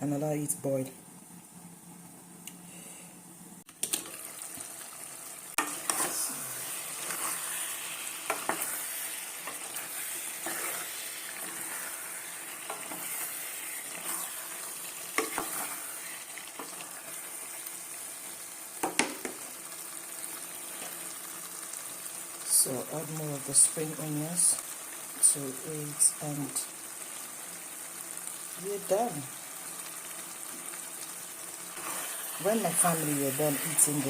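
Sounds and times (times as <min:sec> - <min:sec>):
food sizzling in a pot: 0:03.6 - 0:34.0.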